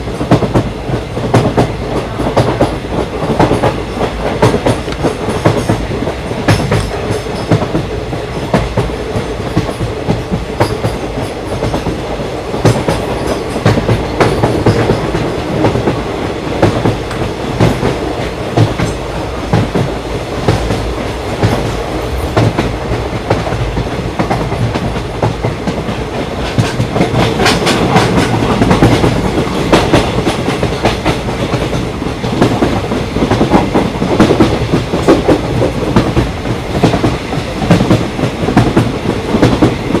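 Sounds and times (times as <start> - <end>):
clickety-clack over rail joints: 0.0 - 40.0
train wheels rumbling on rails: 0.0 - 40.0.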